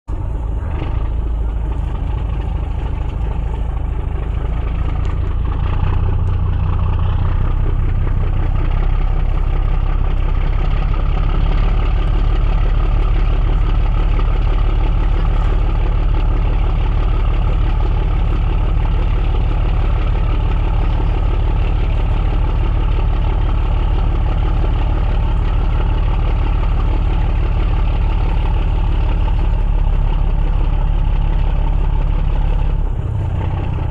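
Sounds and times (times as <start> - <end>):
diesel engine drone: 0.0 - 33.9.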